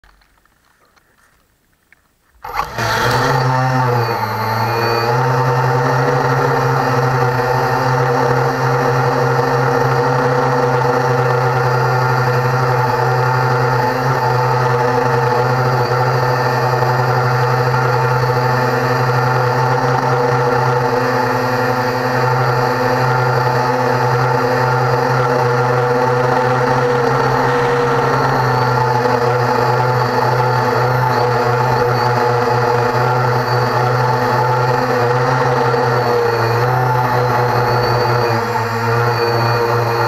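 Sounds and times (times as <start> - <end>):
drone motors whining: 2.4 - 40.0.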